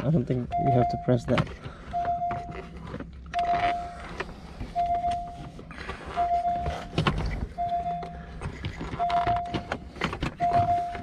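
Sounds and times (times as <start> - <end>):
car warning chime beeping: 0.1 - 2.7, 3.3 - 4.0, 4.6 - 11.0.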